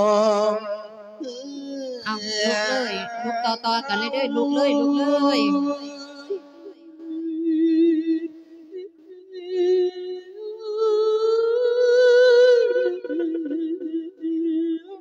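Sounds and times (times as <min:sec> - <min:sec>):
monk chanting: 0:00.0 - 0:15.0.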